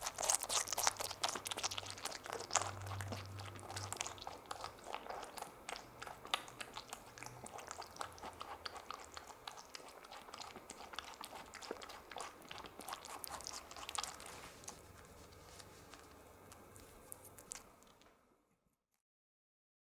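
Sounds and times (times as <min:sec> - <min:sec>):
rabbit chewing a grape: 0:00.0 - 0:18.1.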